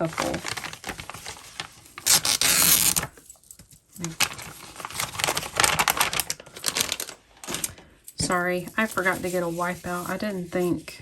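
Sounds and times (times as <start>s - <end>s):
plastic crinkling and rustling: 0.0s - 11.0s.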